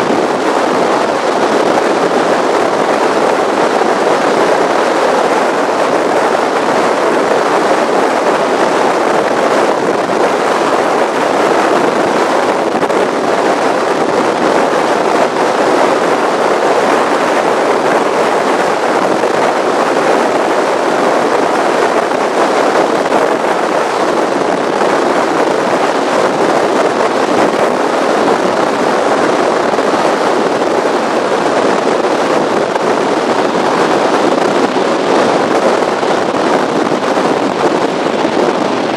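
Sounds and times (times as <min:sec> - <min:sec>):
powerboat engine: 0:00.0 - 0:38.9
wind rushing over microphone: 0:00.0 - 0:38.9.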